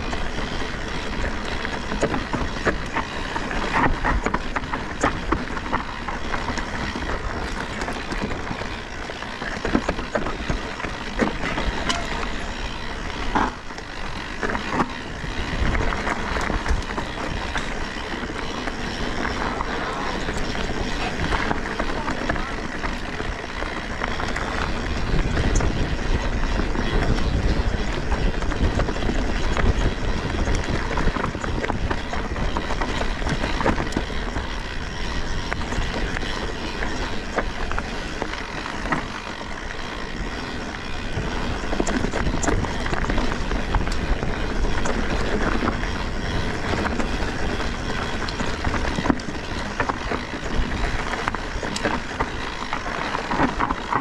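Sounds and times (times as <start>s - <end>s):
bike rattling and knocking: 0.0s - 54.0s.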